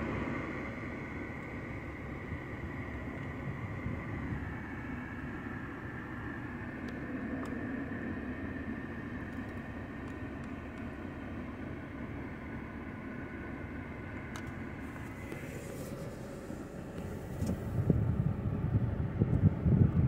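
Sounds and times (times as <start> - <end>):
car cabin running hum: 0.0 - 20.0.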